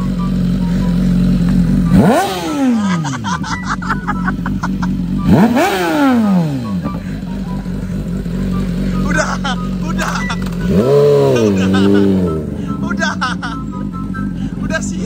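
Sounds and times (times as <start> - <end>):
exhaust crackles: 0.0 - 15.0
motorcycle engine idling: 0.0 - 15.0
motorcycle engine revving: 0.0 - 15.0.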